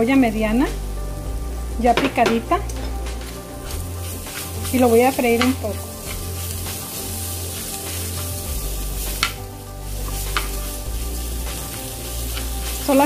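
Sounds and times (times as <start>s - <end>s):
rice and onion sizzling in oil: 0.0s - 13.0s.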